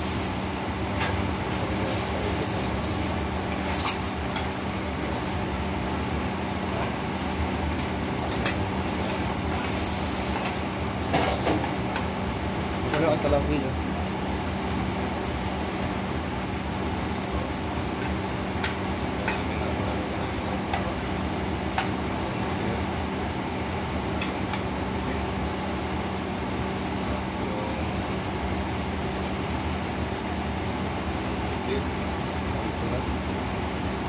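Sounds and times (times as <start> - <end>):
exhaust hood fan drone: 0.0 - 34.0.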